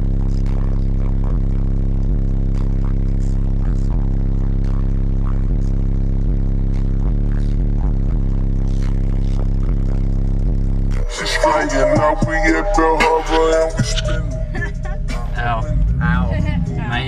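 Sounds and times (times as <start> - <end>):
deep distorted bass note: 0.0 - 17.0.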